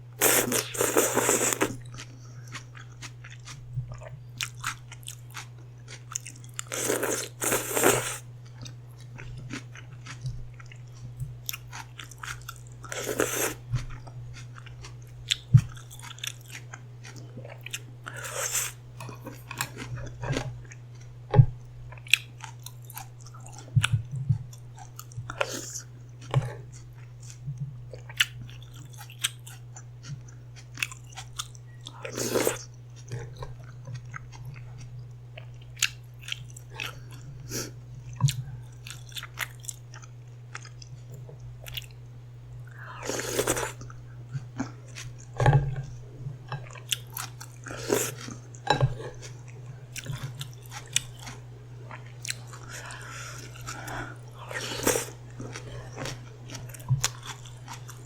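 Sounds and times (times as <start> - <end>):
low electrical hum: 0.0 - 58.0
chewing and crunching: 0.2 - 58.0.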